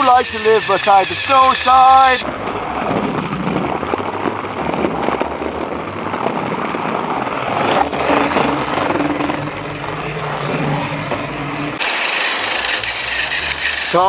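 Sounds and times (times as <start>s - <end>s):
toy train motors buzzing: 0.0s - 4.8s, 5.8s - 14.0s.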